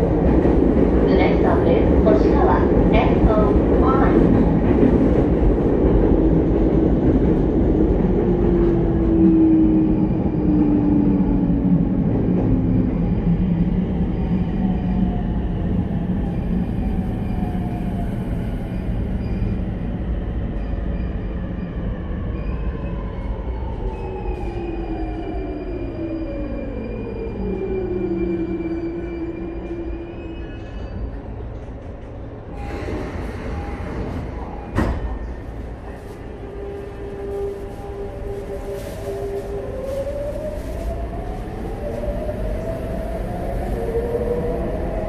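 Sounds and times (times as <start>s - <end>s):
train wheel and rail noise: 0.0s - 45.0s.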